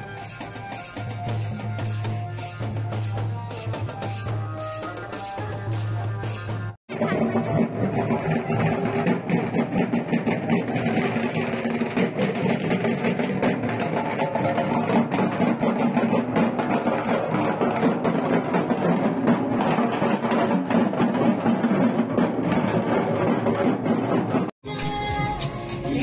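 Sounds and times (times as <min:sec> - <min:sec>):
procession music with drumming: 0:00.0 - 0:24.5.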